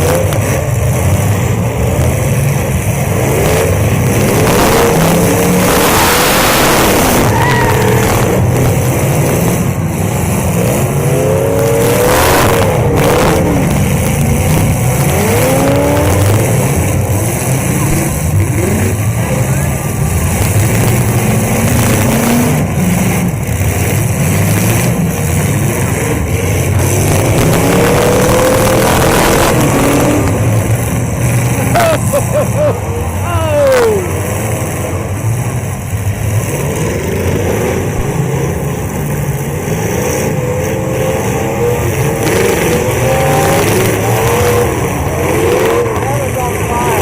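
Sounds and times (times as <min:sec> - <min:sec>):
car engines revving loudly: 0:00.0 - 0:47.0.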